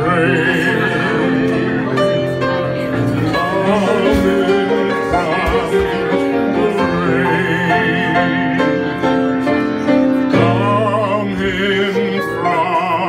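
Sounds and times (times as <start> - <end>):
person singing: 0.0 - 2.2, 2.8 - 13.0
slow ballad music: 0.0 - 13.0.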